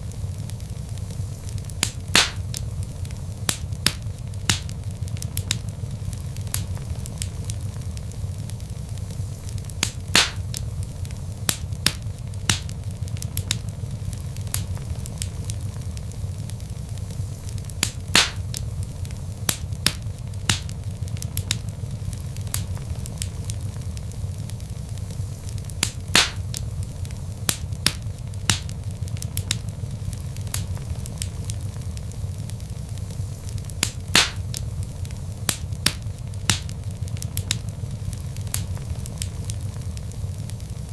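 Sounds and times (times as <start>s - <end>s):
logs burning in fireplace: 0.0s - 40.9s.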